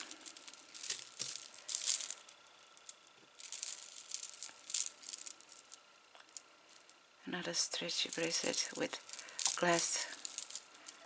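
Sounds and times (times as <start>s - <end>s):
beads and metal pieces clicking: 0.0s - 7.0s, 7.8s - 11.0s.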